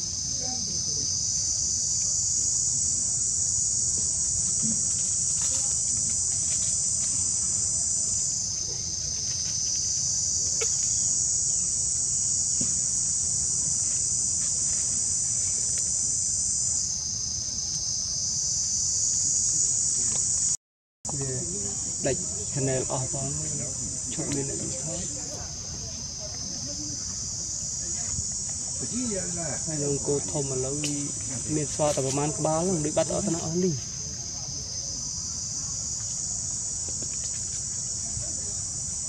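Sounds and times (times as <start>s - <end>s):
insects droning in chorus: 0.0s - 39.0s.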